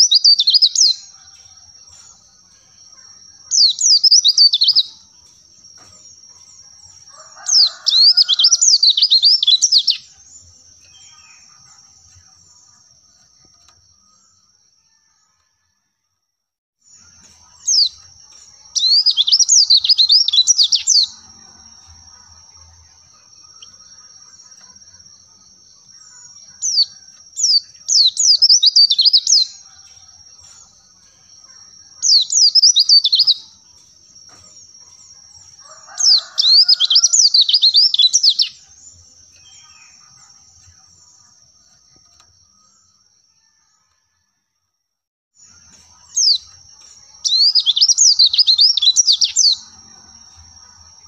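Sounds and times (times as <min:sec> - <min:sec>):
bird twittering chirps: 0:00.0 - 0:14.2, 0:16.8 - 0:43.0, 0:45.4 - 0:51.0.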